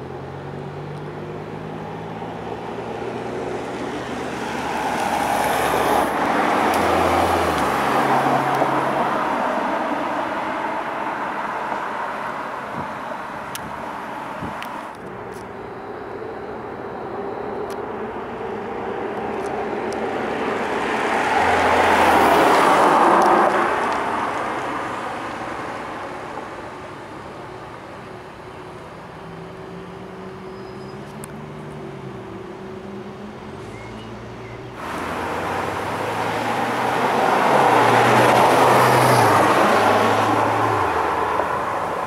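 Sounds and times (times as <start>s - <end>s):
low engine hum of slow cars: 0.0s - 42.0s
sports car driving past: 0.2s - 14.8s, 18.4s - 26.3s, 29.2s - 42.0s.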